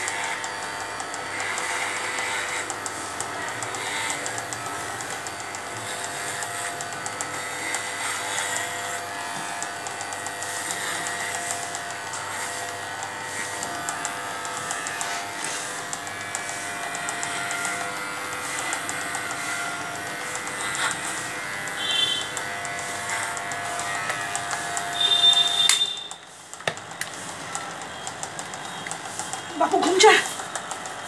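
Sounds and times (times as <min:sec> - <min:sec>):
electric pet clipper buzzing: 0:00.0 - 0:31.0.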